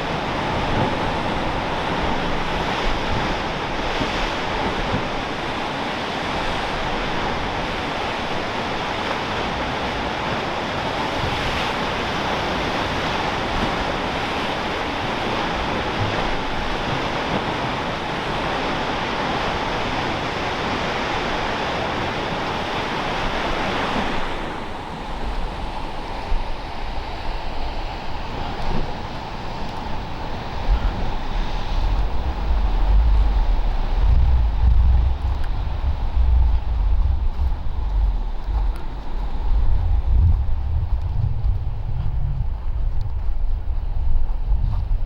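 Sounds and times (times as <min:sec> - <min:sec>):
surf breaking on shore: 0:00.0 - 0:45.0
wind: 0:00.0 - 0:45.0
wind rumbling on microphone: 0:00.0 - 0:45.0.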